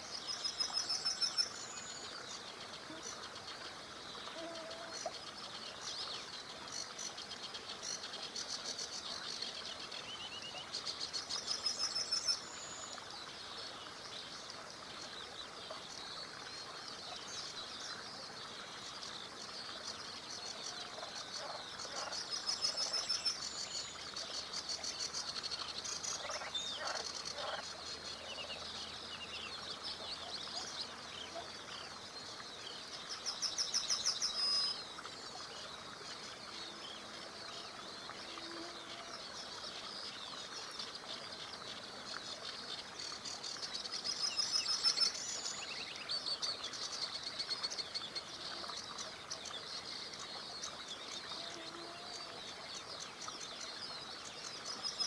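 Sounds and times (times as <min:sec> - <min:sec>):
flowing water hiss: 0:00.0 - 0:55.0.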